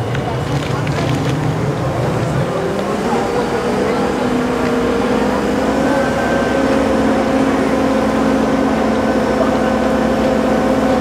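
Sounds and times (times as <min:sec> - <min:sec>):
crane engine running under load: 0:00.0 - 0:11.0.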